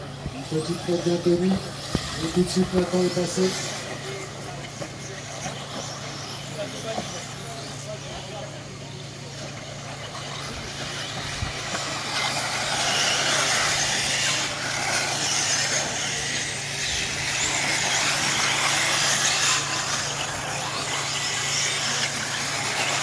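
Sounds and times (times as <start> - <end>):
rc cars whirring and hissing: 0.0 - 23.0.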